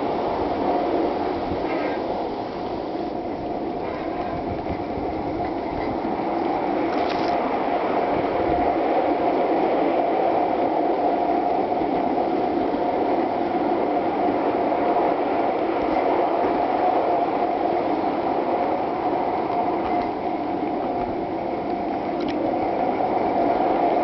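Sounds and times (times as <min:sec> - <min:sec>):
faint constant whine: 0:00.0 - 0:24.0.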